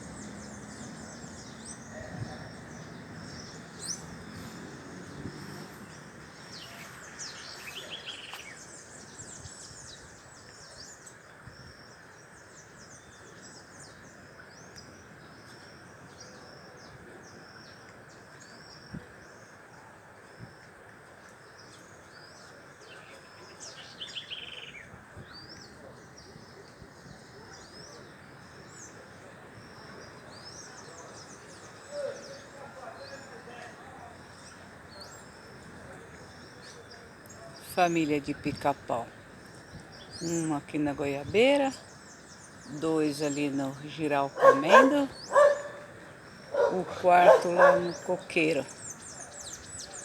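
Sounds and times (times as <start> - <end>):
birds chirping: 0.0 - 19.5, 21.5 - 50.0
outdoor background hiss: 0.0 - 50.0.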